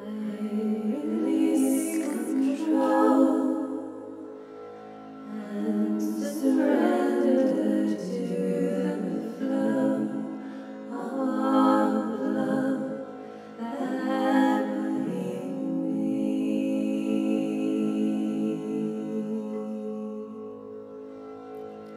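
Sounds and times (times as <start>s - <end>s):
woman singing sustained tones: 0.0s - 20.9s.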